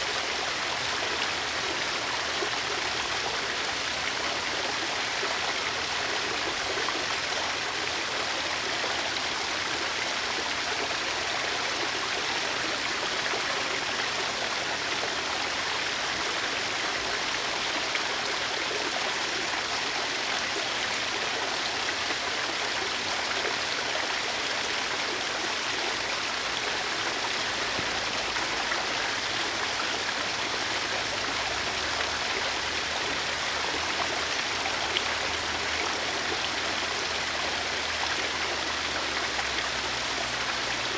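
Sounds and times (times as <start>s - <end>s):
garden waterfall splashing: 0.0s - 40.9s.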